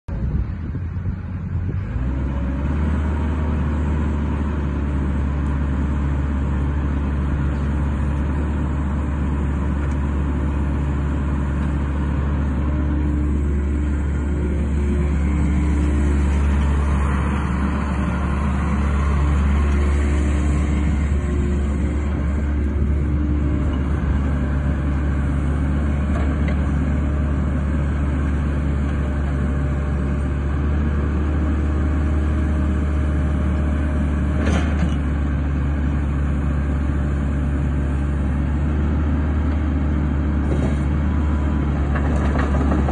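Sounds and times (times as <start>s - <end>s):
excavator diesel engine running: 0.1s - 42.9s.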